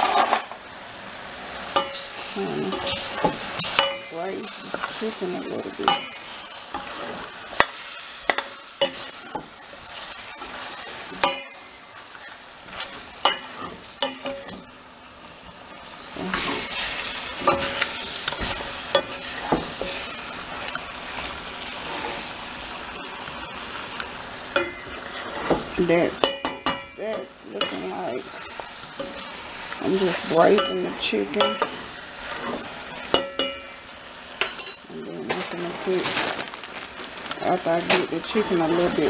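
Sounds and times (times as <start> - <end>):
chicken sizzling in oil: 0.0 - 39.0.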